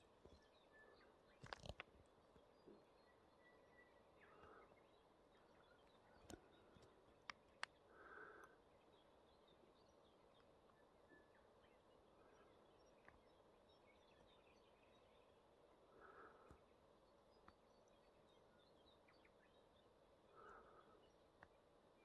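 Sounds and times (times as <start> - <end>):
distant bird chirps: 0.0 - 22.0.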